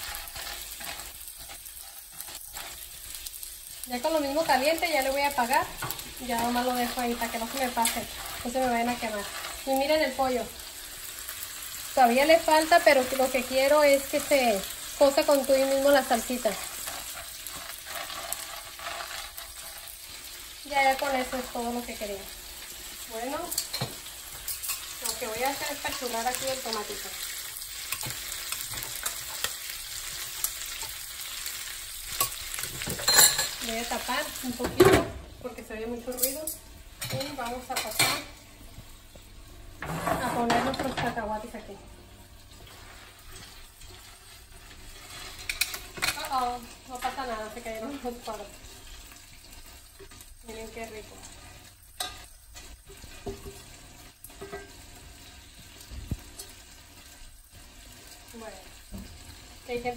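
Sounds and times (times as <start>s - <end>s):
chicken sizzling in a pan: 0.0s - 59.9s.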